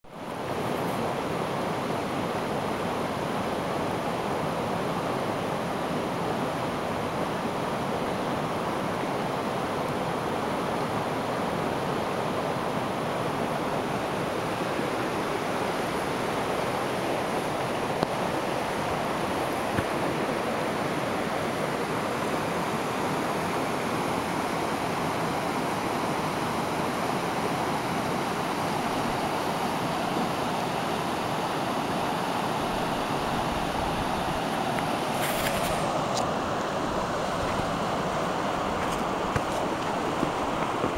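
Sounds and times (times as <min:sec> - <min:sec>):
river rushing over rocks: 0:00.1 - 0:40.9.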